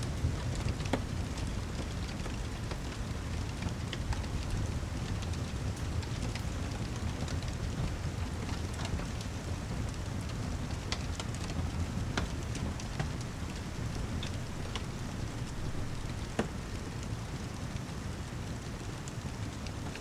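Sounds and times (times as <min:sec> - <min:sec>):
steady rain: 0:00.0 - 0:20.0
wood fireplace crackling: 0:00.0 - 0:20.0.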